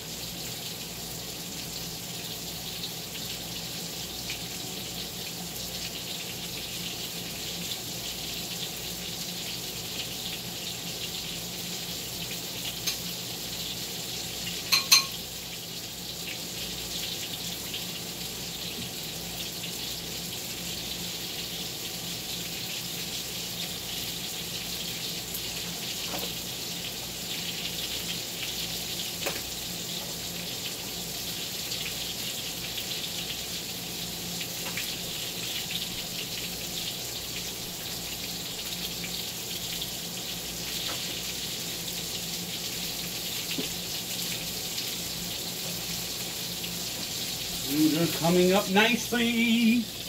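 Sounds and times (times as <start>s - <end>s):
meat sizzling in a skillet: 0.0s - 50.0s.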